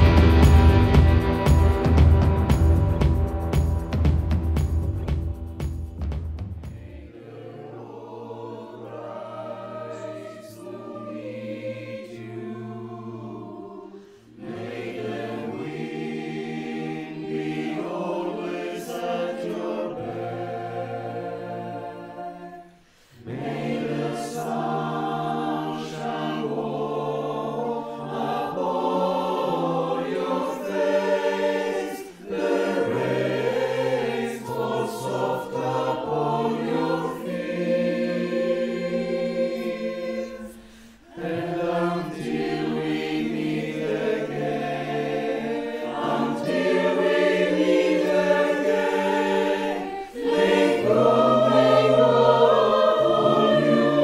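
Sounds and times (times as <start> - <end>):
choir singing in parts: 0.0 - 54.0.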